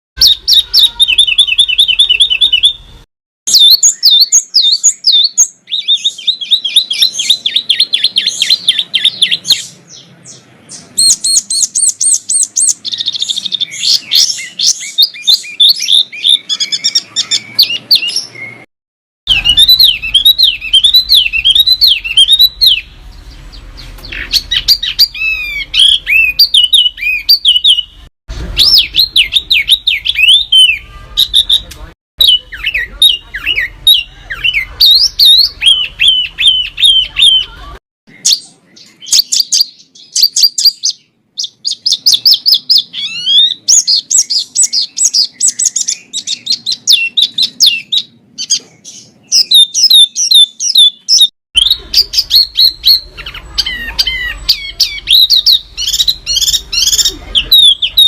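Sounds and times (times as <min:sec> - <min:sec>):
songbirds singing: 0:00.2 - 0:18.7, 0:19.3 - 0:58.0.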